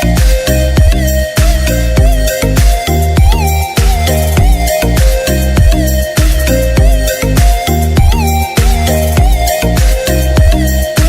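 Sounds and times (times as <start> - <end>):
electronic music with bass beat: 0.0 - 11.0.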